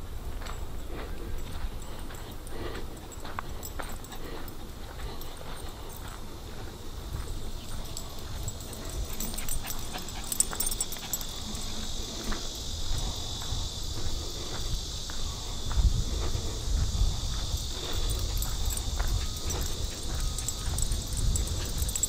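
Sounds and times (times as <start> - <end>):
footsteps on dirt trail: 0.0 - 22.0
high-pitched insect buzz: 1.3 - 22.0.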